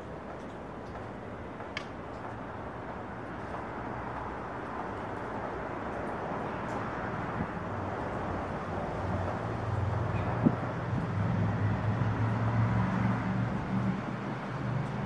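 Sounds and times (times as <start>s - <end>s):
distant road traffic: 0.0s - 15.0s.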